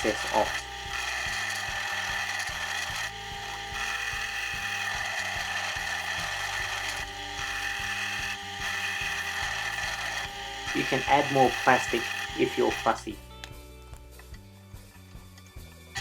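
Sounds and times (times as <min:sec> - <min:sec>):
file rasping plastic: 0:00.0 - 0:13.0
drill press humming: 0:00.0 - 0:13.2.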